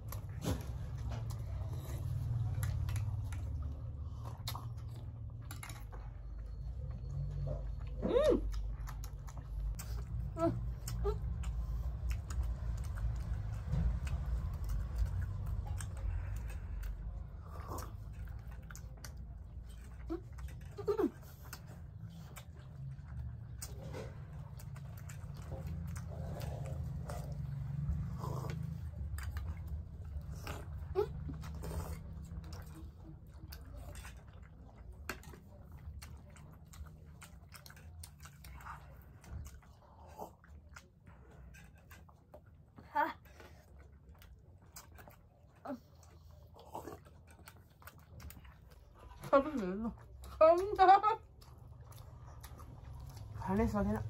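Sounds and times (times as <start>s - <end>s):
low steady rumble: 0.0s - 54.0s
people chewing: 0.0s - 54.0s.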